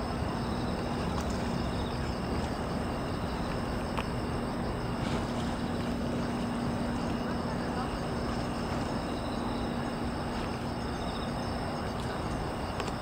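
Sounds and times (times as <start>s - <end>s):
crickets and insects chirping: 0.0s - 13.0s
low hum and rumble: 0.0s - 13.0s.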